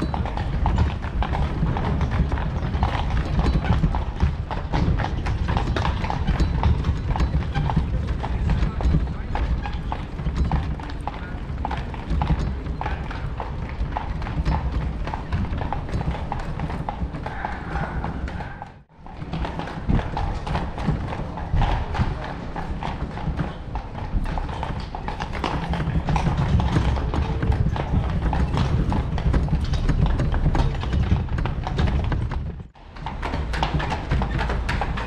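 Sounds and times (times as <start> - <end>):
hooves clip-clopping on cobblestones: 0.0 - 35.0.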